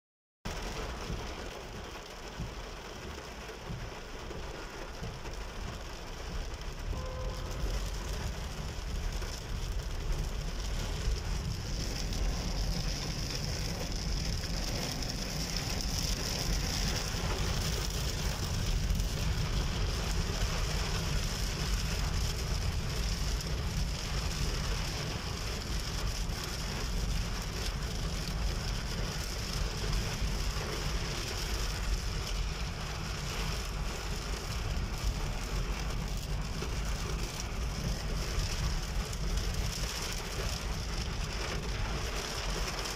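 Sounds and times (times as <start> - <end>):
heavy rain on car roof: 0.5 - 42.9
road and engine rumble: 0.5 - 42.9.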